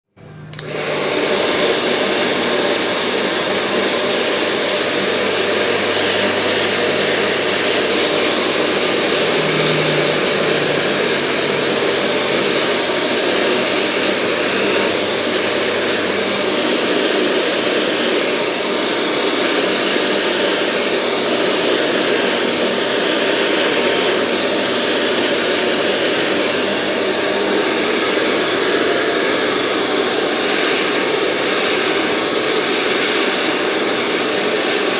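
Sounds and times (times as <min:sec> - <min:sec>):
hair dryer blowing air: 0:00.2 - 0:34.9.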